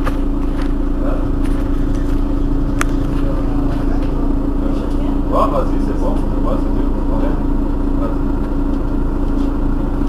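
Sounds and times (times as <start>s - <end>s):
bus engine idling: 0.0s - 10.0s.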